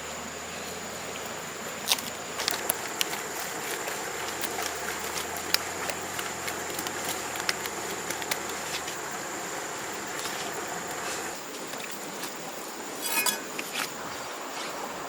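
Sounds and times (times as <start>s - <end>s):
noisy outdoor background: 0.0s - 15.0s.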